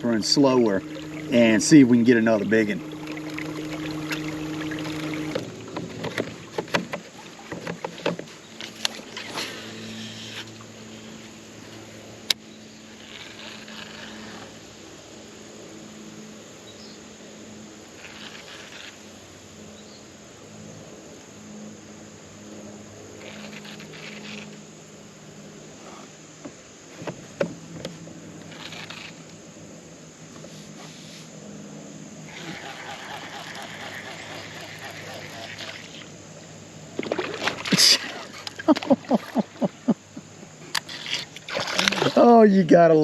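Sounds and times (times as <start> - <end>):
electric boat motor humming: 0.0 - 42.4.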